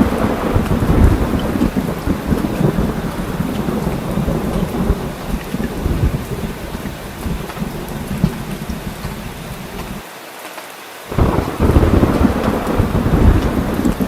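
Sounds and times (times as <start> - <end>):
rolling thunder rumble: 0.0 - 10.0, 11.1 - 14.0
steady rain falling: 0.0 - 14.0.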